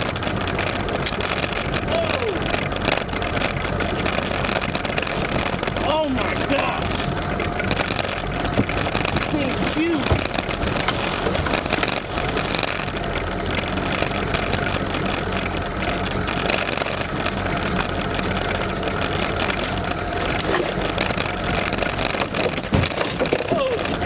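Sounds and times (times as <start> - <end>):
boat engine idling: 0.0 - 24.0
knocks and clatter in boat: 0.0 - 24.0.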